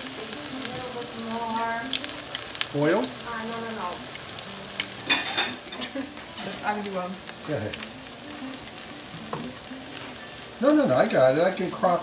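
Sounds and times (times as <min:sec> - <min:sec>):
pancakes sizzling in oil: 0:00.0 - 0:12.0.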